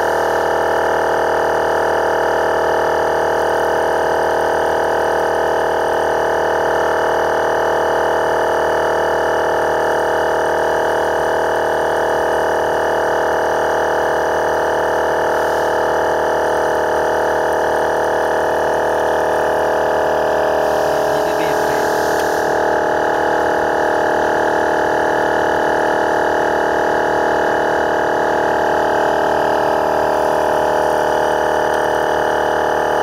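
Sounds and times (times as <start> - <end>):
air compressor droning: 0.0 - 33.0.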